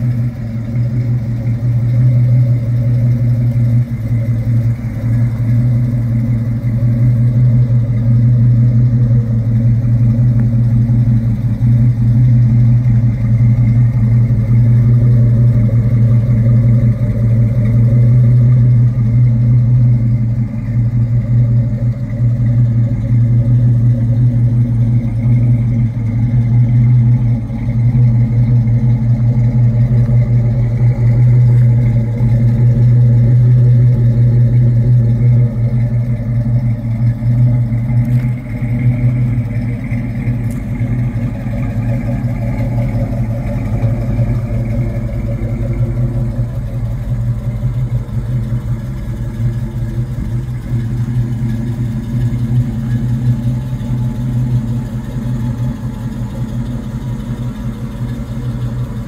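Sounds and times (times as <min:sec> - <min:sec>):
vee eight engine idling: 0:00.0 - 0:59.0.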